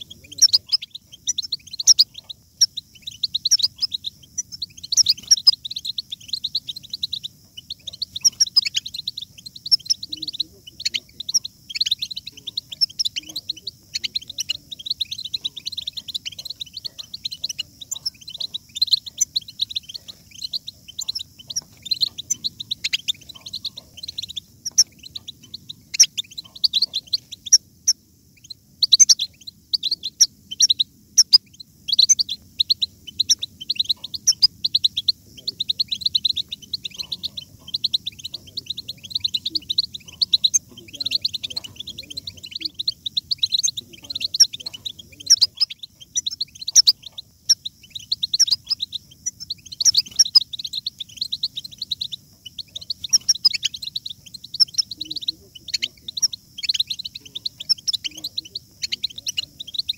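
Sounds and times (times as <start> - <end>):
finches twittering: 0.0 - 59.9.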